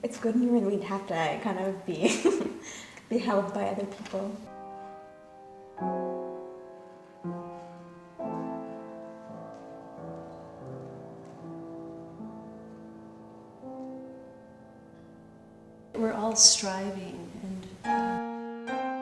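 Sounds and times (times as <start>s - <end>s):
slow quiet piano music: 0.0s - 19.0s.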